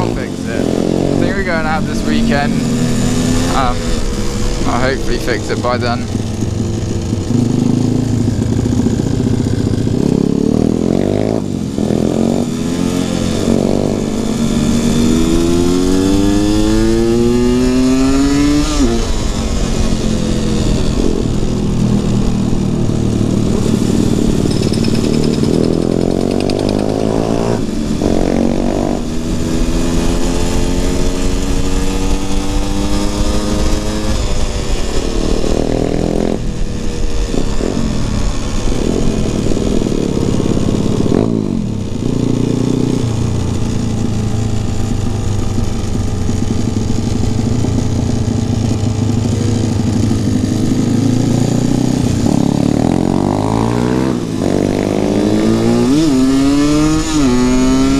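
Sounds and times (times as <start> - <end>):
motorcycle engine revving through gears: 0.0 - 57.9.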